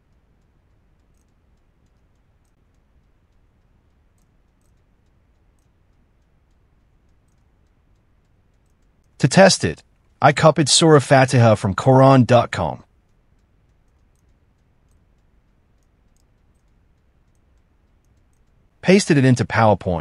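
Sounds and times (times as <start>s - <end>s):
faint irregular clicks: 0.0s - 20.0s.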